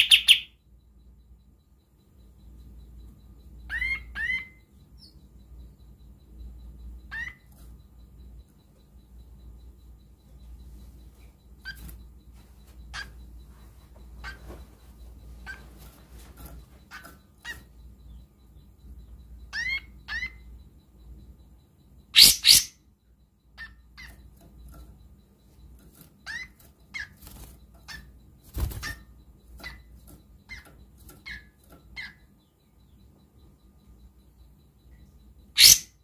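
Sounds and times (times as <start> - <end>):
songbird chirping: 0.0 - 36.0.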